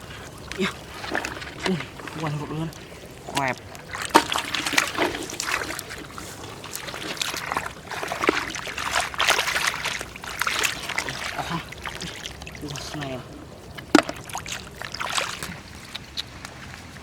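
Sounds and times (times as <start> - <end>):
shallow water splashing: 0.0 - 17.0.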